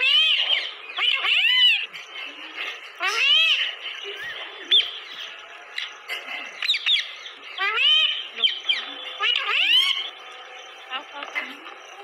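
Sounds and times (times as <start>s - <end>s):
parakeets calling: 0.0s - 12.0s.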